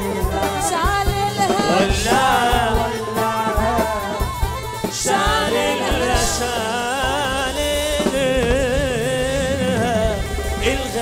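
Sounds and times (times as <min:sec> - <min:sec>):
tambourines and hand drums: 0:00.0 - 0:11.0.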